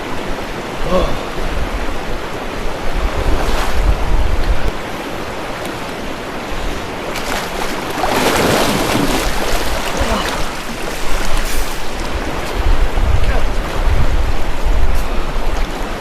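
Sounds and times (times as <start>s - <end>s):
river rushing: 0.0s - 16.0s
wind buffeting microphone: 1.2s - 5.1s, 6.4s - 16.0s.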